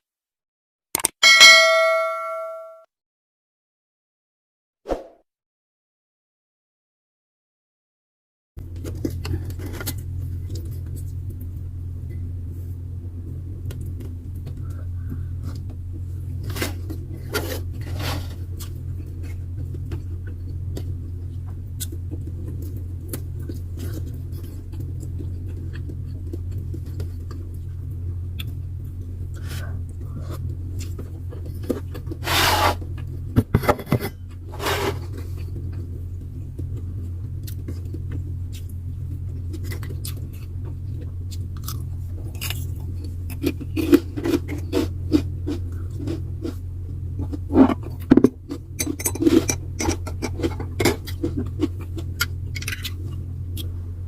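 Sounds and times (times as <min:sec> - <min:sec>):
steady low hum: 0:08.6 - 0:54.0.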